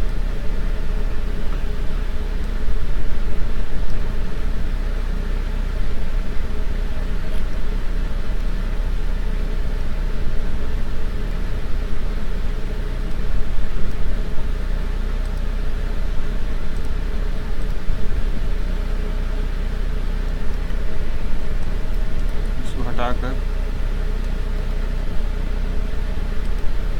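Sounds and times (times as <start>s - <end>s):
low hum and hiss: 0.0s - 26.9s.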